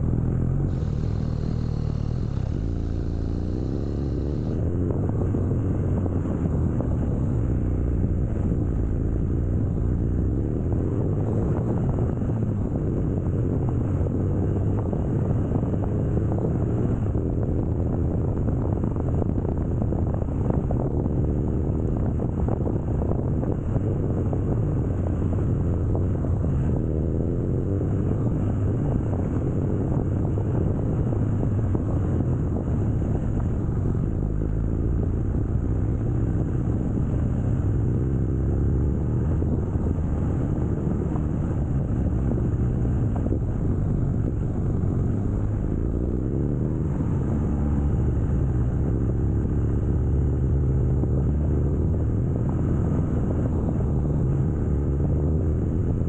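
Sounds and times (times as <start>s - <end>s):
motorcycle engine rumble: 0.0s - 56.0s
road and wind noise: 0.0s - 56.0s.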